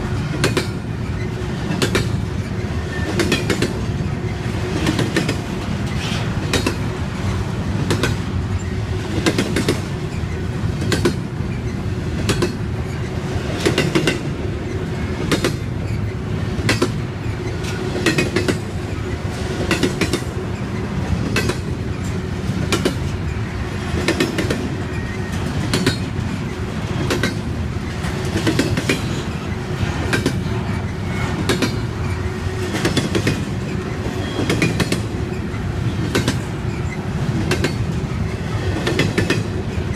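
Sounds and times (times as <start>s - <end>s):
freight train rumbling past: 0.0s - 39.9s
wheels clacking over rail joints: 0.1s - 39.9s.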